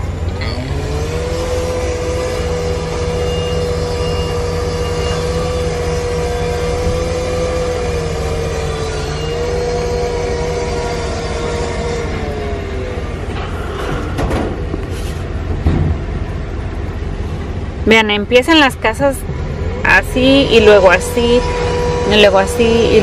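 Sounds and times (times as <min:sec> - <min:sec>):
steady humming whine: 0:00.0 - 0:23.0
vehicle engine and road rumble: 0:00.0 - 0:23.0.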